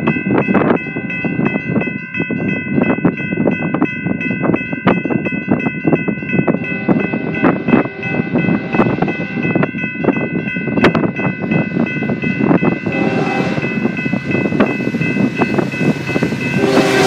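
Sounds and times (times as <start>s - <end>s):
high-pitched ringing tone: 0.0s - 17.0s.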